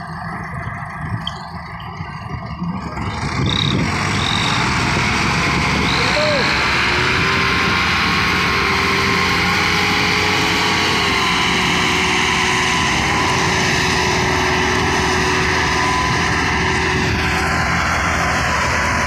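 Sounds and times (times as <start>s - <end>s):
tractor engines running under load: 0.0s - 19.0s.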